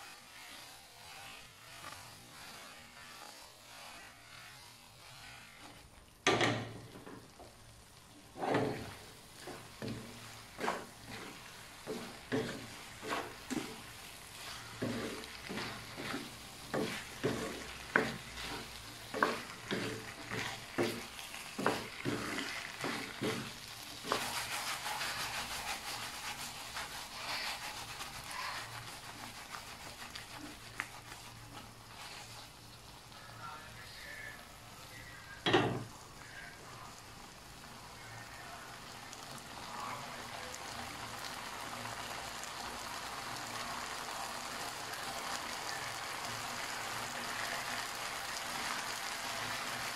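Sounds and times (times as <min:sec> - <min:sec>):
wooden spatula scraping wok: 0:00.0 - 0:45.6
stir fry sizzling: 0:00.0 - 0:49.9.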